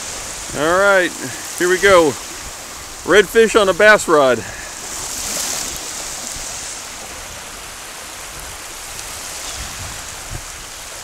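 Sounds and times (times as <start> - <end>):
small waves breaking: 0.0 - 11.0.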